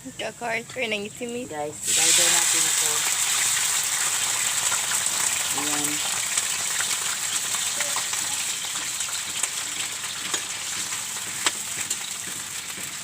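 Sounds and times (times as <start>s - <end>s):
food sizzling in hot oil: 0.4s - 13.0s.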